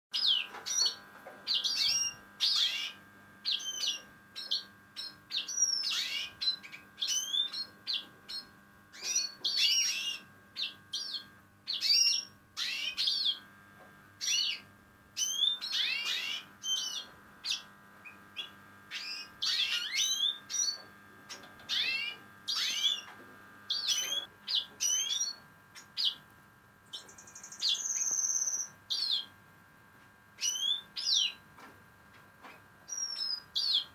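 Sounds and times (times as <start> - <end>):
birds chirping and twittering: 0.1 - 29.4, 30.4 - 31.7, 32.4 - 33.9.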